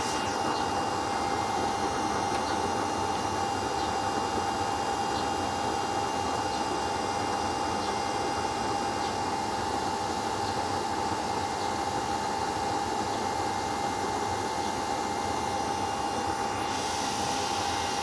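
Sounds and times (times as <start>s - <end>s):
blower fans and flame rushing: 0.0s - 18.0s
steady mid-pitched hum: 0.0s - 18.0s.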